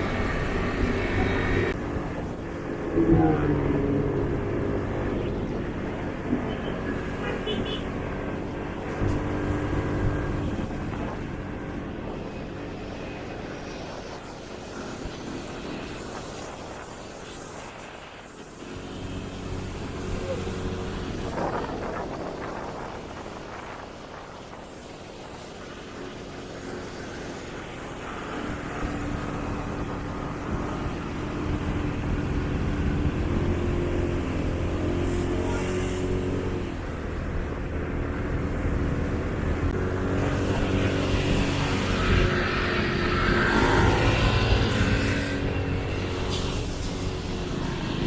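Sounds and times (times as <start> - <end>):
road noise: 0.0 - 48.0.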